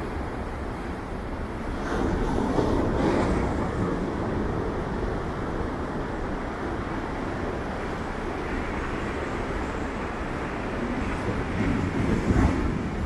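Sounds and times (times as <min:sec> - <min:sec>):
ocean waves breaking: 0:00.0 - 0:13.0
rush of surf: 0:00.0 - 0:13.0.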